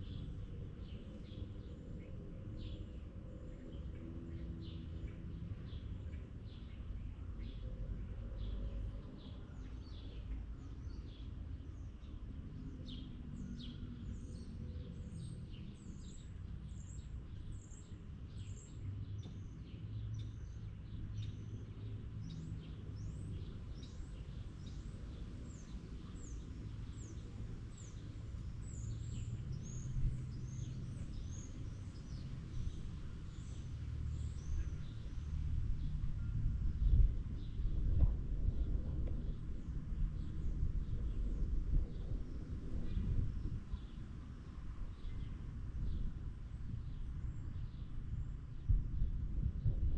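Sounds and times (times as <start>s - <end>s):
low steady background rumble: 0.0s - 49.9s.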